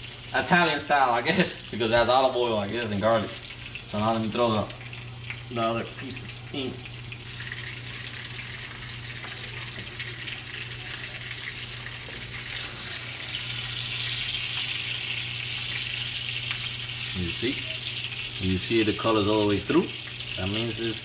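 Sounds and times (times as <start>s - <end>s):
fish sizzling in a skillet: 0.0s - 21.0s.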